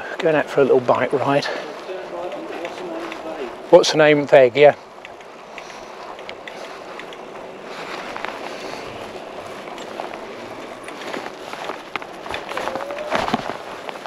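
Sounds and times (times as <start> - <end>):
bicycle rolling: 0.0 - 14.0
faint ticks and rattles: 1.0 - 14.0.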